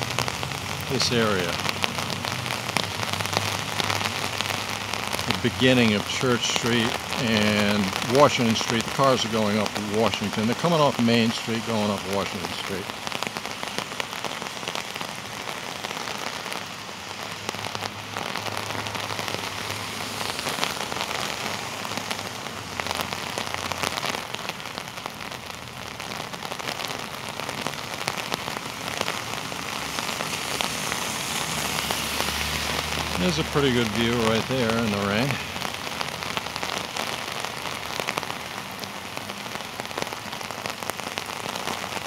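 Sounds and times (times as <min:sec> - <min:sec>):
cars passing on wet road: 0:00.0 - 0:42.0
heavy rain pouring: 0:00.0 - 0:42.0.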